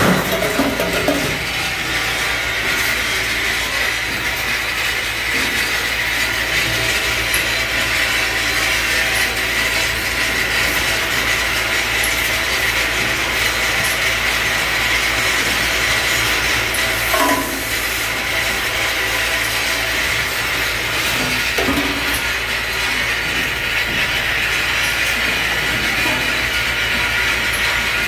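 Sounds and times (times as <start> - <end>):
assembly line machinery rattle: 0.0 - 28.0.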